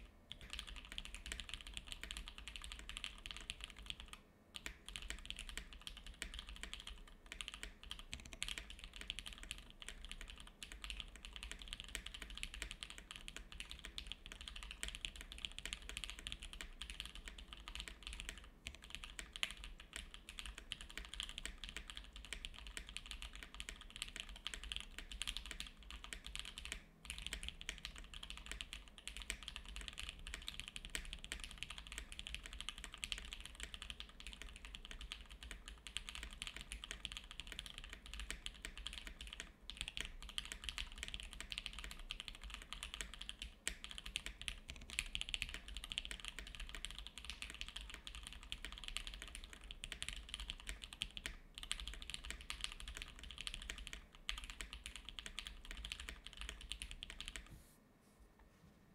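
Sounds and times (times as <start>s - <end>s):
typing on mechanical keyboard: 0.3s - 57.5s.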